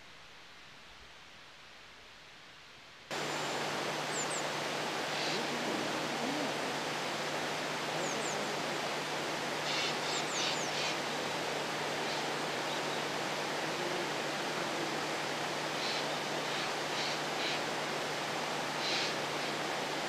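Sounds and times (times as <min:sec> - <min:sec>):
outdoor rushing hiss: 0:00.0 - 0:20.0.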